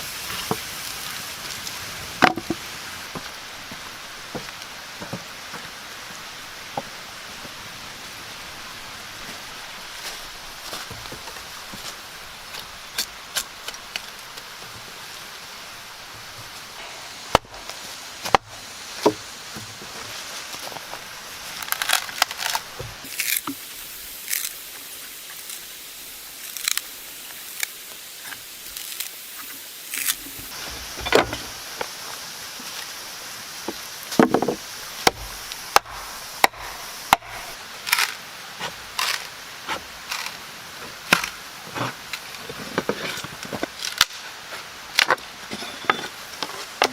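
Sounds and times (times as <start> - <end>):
background hiss: 0.0 - 46.9.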